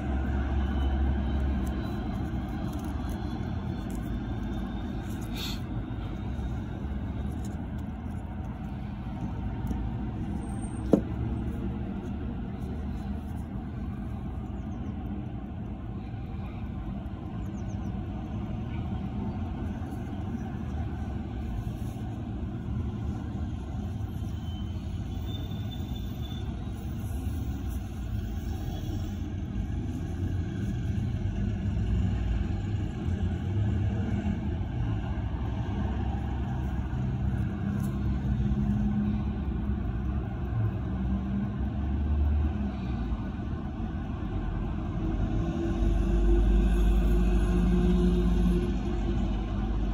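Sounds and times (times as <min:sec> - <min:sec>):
low background rumble: 0:00.0 - 0:49.9.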